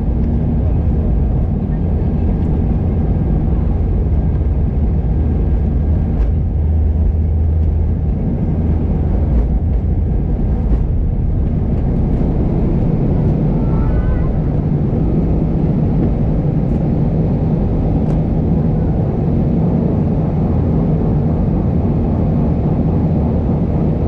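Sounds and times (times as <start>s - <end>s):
jet engine rumble inside cabin: 0.0s - 24.0s.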